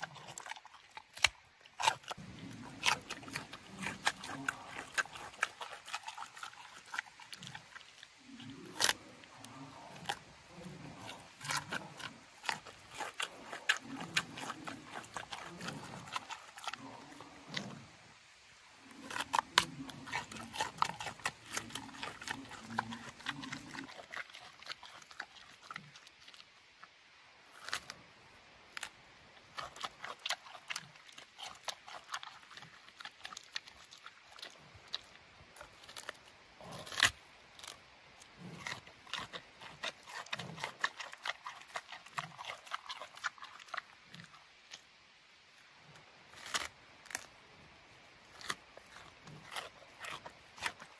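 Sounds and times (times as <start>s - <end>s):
panda chewing with wet smacks: 0.0s - 17.7s, 18.9s - 26.5s, 28.8s - 37.7s, 38.3s - 44.9s, 48.3s - 50.9s.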